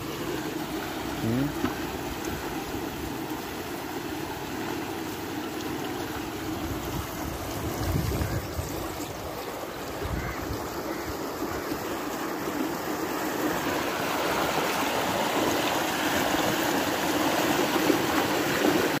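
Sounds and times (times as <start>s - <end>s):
water rushing around pipe: 0.0s - 19.0s.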